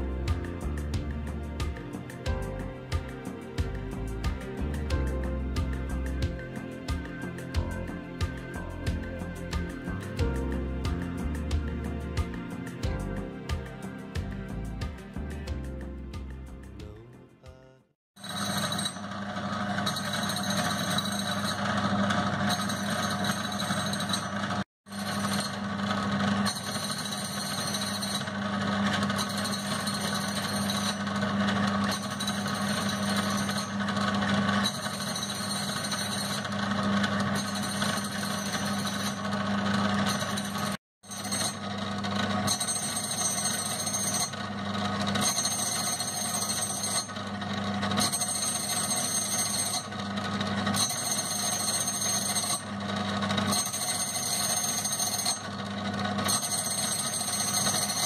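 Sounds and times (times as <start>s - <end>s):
grinding wheel grinding metal: 0.0s - 16.6s, 18.2s - 58.0s
grinder motor hum: 0.0s - 17.0s, 18.2s - 58.0s.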